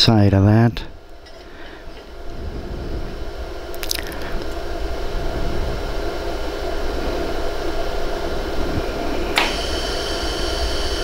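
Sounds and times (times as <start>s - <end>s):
machine fan hum: 0.0s - 11.0s
steady hiss: 0.0s - 11.0s.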